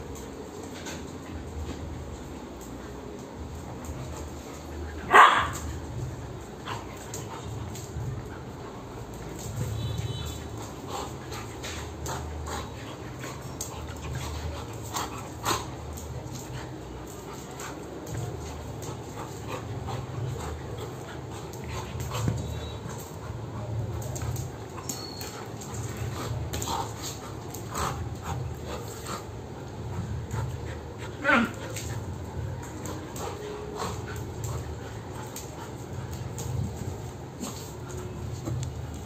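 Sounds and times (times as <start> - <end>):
claws clicking on tiled floor: 0.0 - 39.0
dogs scuffling: 0.0 - 39.0
dogs panting: 0.1 - 39.0.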